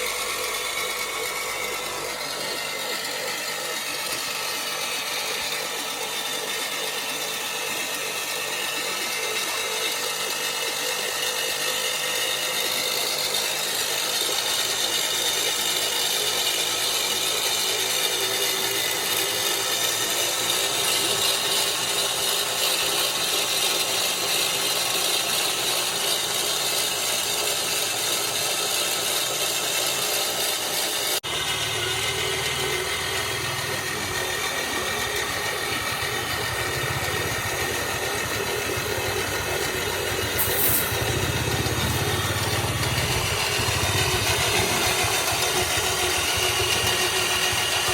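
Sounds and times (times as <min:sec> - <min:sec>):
mechanical rattle: 0:00.0 - 0:47.9
small electric motor running: 0:00.0 - 0:47.9.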